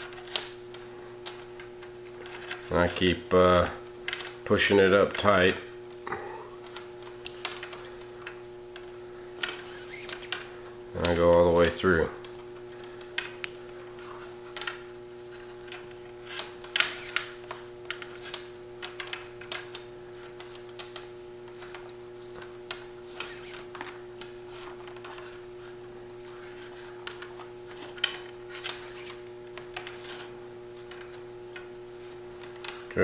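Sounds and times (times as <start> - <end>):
cord rustling and clicking: 0.0 - 2.8, 6.6 - 33.0
steady hum: 0.0 - 33.0.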